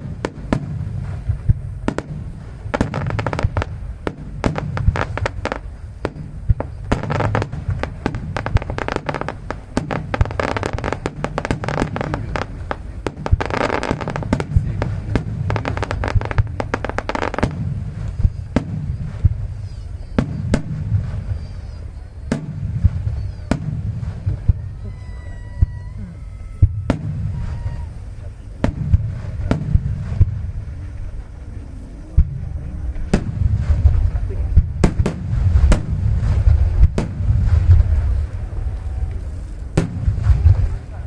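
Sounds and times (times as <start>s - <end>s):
firework shells bursting: 0.0s - 25.9s, 26.6s - 31.2s, 32.2s - 41.0s
fireworks crackling: 0.0s - 41.0s
low rumble: 0.0s - 41.0s.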